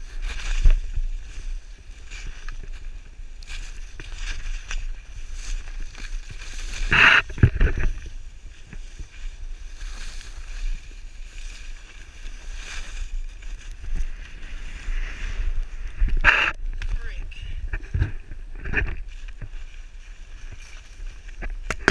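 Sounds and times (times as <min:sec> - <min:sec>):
skis scraping over snow: 0:00.0 - 0:16.8, 0:17.8 - 0:21.9
wind rumble on camera: 0:00.0 - 0:21.9.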